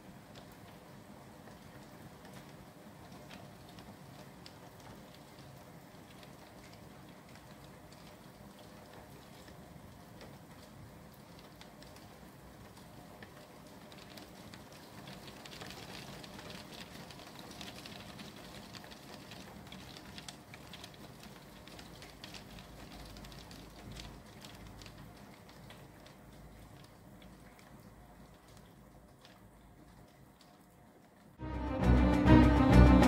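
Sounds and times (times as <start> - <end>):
rain pattering on window glass: 0.0 - 31.4.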